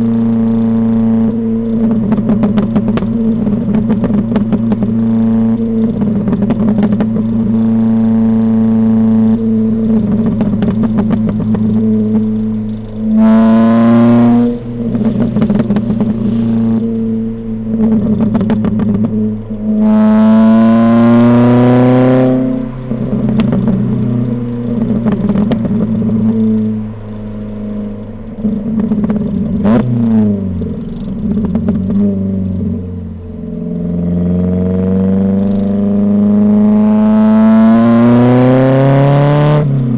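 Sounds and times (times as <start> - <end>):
exhaust pops and crackles: 0.0 - 36.2
car engine revving: 0.0 - 39.9.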